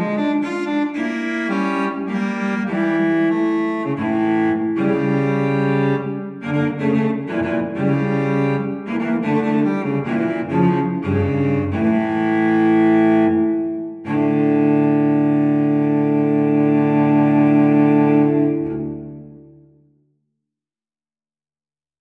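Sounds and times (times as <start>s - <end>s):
slow solo cello piece: 0.0s - 19.8s.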